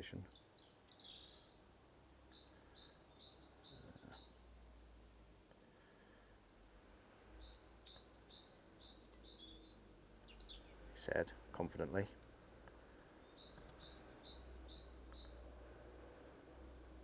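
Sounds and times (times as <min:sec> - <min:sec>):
faint bird chirps: 0:00.0 - 0:06.6, 0:07.4 - 0:16.6.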